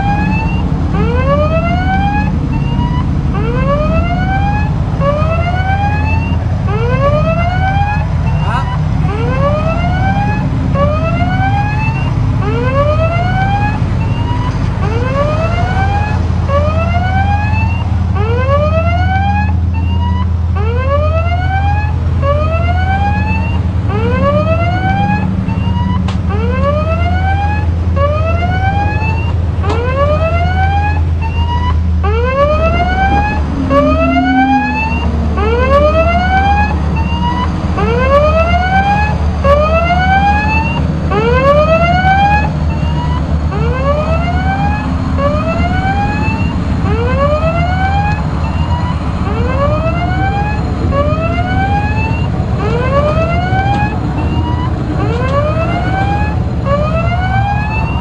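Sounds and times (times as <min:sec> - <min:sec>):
electronic siren whooping: 0:00.0 - 0:58.0
low drone of ship engines: 0:00.0 - 0:58.0.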